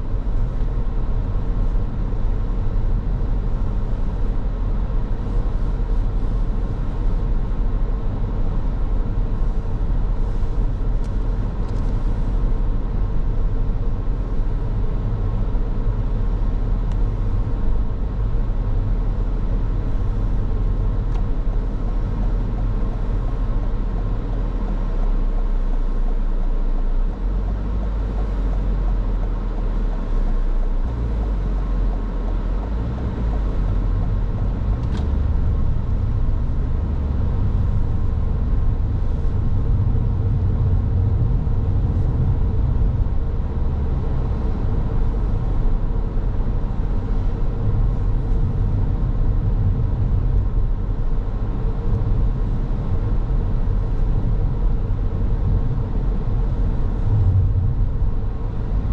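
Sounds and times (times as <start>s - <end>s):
car tyre and engine rumble: 0.0s - 58.9s.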